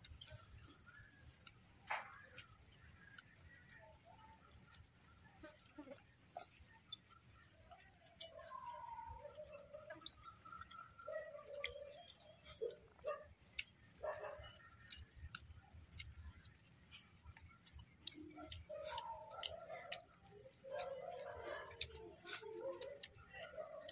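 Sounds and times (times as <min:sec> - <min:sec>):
birds chirping and whistling: 0:00.0 - 0:15.4, 0:16.0 - 0:23.9
people chewing with mouth clicks: 0:00.0 - 0:23.9.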